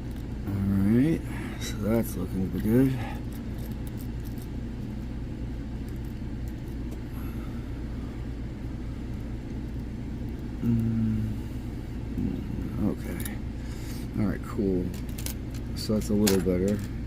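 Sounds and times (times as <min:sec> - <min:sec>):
short low hum: 0:00.0 - 0:16.0
steady low rumble: 0:00.0 - 0:17.0.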